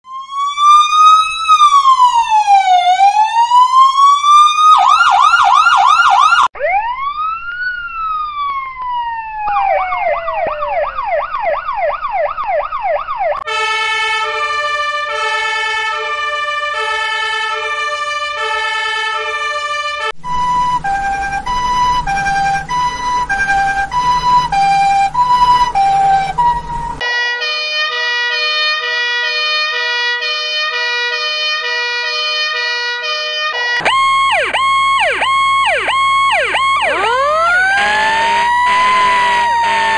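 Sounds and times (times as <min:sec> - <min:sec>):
ambulance two-tone siren: 0:00.0 - 0:39.9
two-tone fire truck siren: 0:00.0 - 0:39.9
police siren wailing and yelping: 0:00.1 - 0:27.2, 0:33.7 - 0:39.9.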